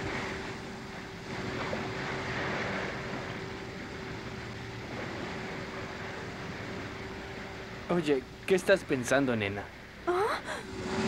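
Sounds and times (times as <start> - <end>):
choppy water and waves: 0.0 - 11.0
outboard motor running: 0.0 - 11.0.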